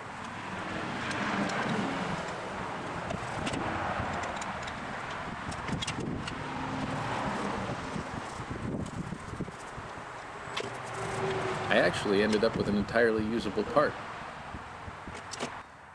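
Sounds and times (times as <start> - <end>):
rushing outdoor background noise: 0.0 - 15.9.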